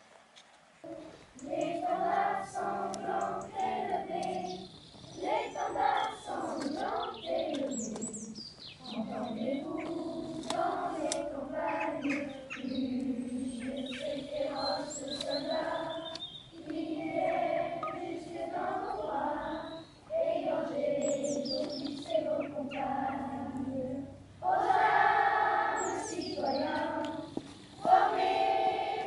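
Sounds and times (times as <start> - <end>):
faint birds chirping: 0.2 - 28.1
choir of voices singing: 0.8 - 29.0.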